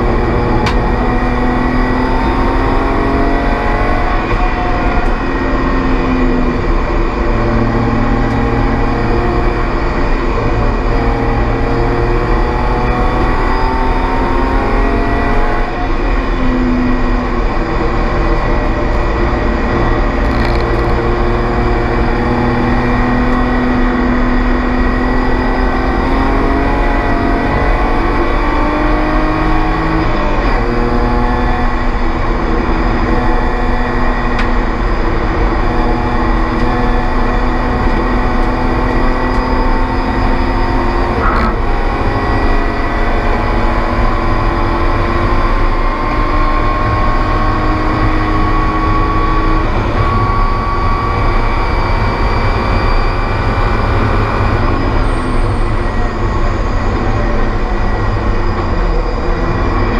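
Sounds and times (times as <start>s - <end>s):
race car engine revving: 0.0s - 59.9s
steady high whine: 0.0s - 59.9s.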